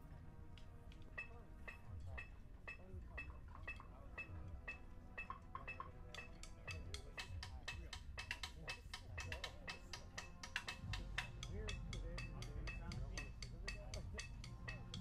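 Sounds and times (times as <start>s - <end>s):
drumstick clicks: 0.5s - 15.0s
electronic metronome beeps: 1.1s - 15.0s.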